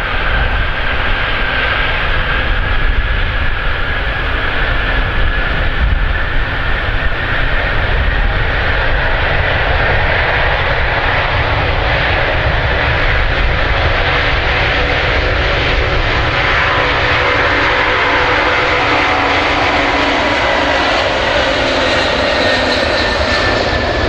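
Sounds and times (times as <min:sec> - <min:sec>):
loud engine drone: 0:00.0 - 0:24.0.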